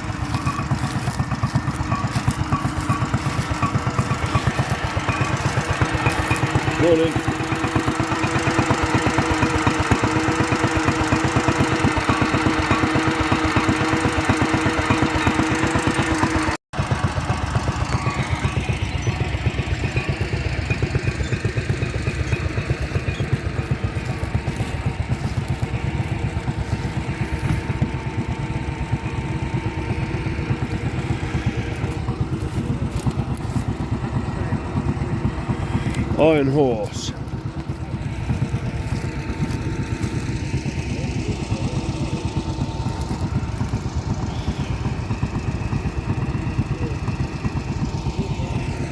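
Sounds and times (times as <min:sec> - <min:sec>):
engine with duller note: 0:00.0 - 0:48.9
tractor engine running: 0:00.0 - 0:48.9.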